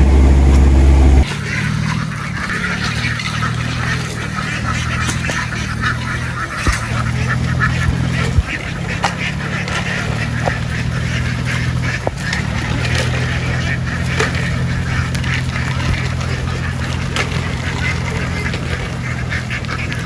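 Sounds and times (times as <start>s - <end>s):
ducks quacking: 0.0s - 20.0s
low engine hum: 0.0s - 20.0s.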